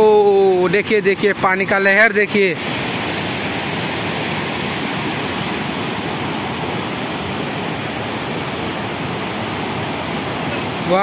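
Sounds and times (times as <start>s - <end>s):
river water rushing over weir: 0.0s - 11.0s.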